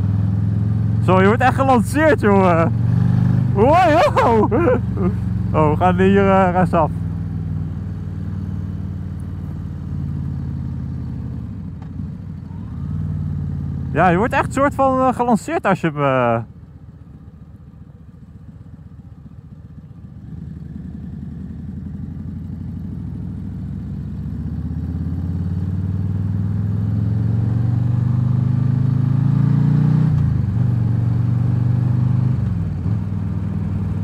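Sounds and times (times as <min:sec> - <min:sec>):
motorcycle engine accelerating: 0:00.0 - 0:15.2, 0:16.6 - 0:34.0.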